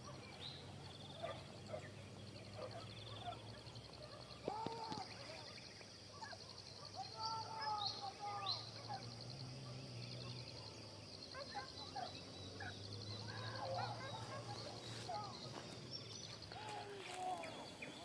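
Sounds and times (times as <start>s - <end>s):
bird chirps: 0.0s - 18.0s
distant drawn-out calls: 0.0s - 18.0s
pulsing insect trill: 0.0s - 18.0s.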